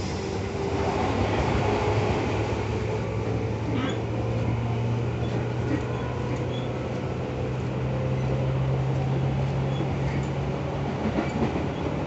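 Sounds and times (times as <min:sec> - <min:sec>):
electric train wheel and rail noise: 0:00.0 - 0:12.0.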